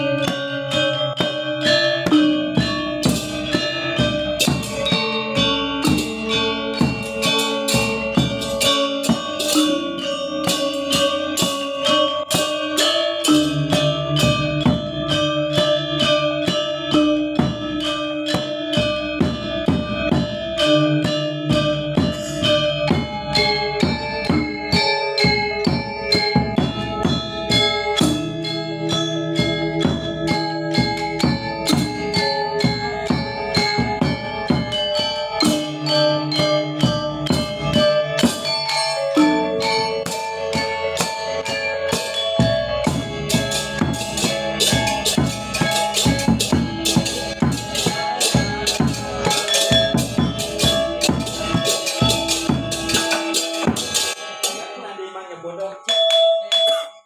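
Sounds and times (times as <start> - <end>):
gamelan gong ensemble playing: 0.0 - 55.0.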